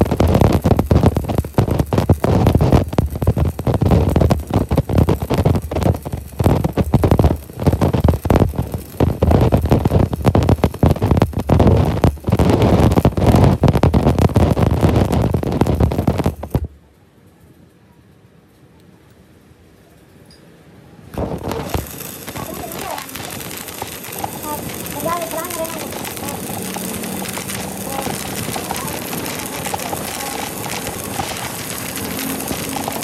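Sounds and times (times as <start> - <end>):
welding arc crackling: 0.0 - 16.8, 21.1 - 33.0.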